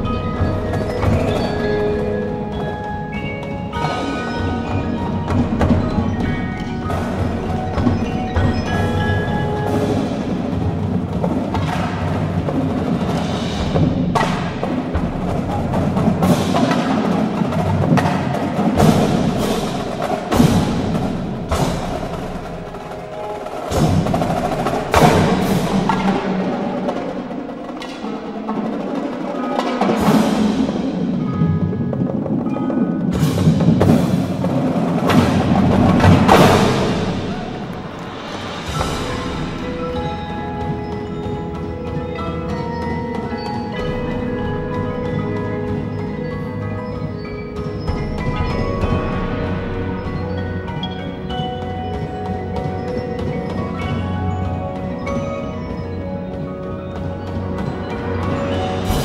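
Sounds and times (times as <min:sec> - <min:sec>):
marching drums playing: 0:00.0 - 0:59.0
marimbas and vibraphones: 0:00.0 - 0:59.0.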